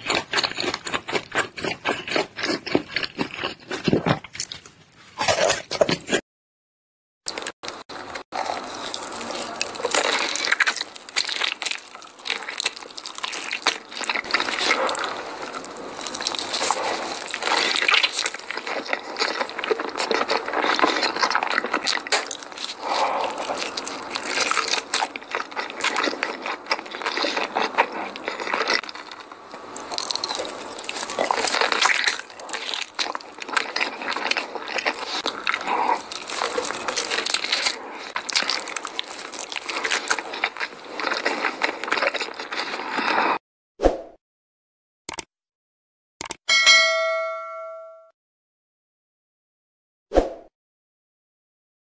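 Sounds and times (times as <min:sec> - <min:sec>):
wet chewing: 0:00.0 - 0:06.2, 0:07.3 - 0:43.4.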